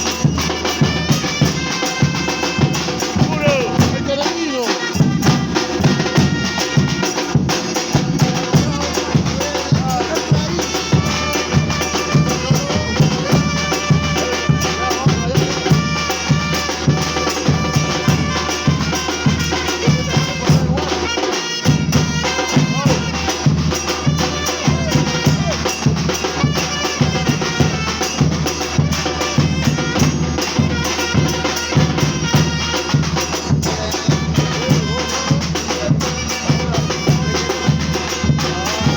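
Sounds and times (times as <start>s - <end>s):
bass drum beat: 0.0s - 38.9s
drum group playing: 0.0s - 38.9s.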